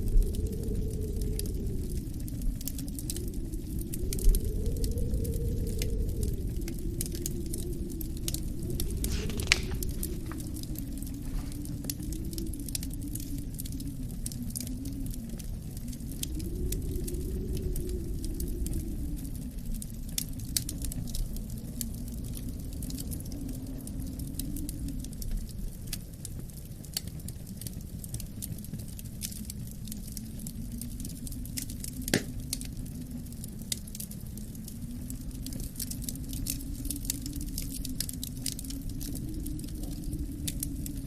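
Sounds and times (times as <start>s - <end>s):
low wind rumble: 0.0s - 41.0s
wood fire crackling and popping: 0.0s - 41.0s.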